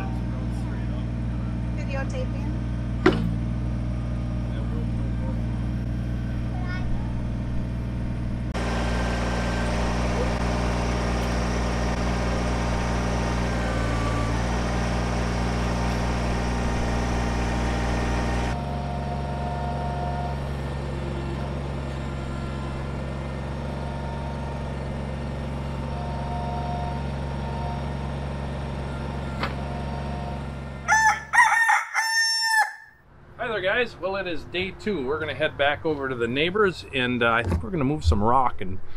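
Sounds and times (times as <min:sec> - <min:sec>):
tractor diesel engine running: 0:00.0 - 0:31.3.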